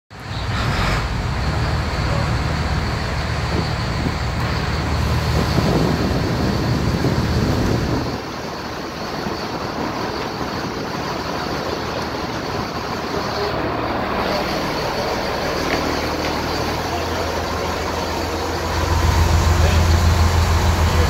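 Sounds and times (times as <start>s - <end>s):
wind: 0.1s - 21.0s
boat engine running: 0.2s - 21.0s
rushing water: 0.2s - 21.0s
low hum: 0.5s - 21.0s.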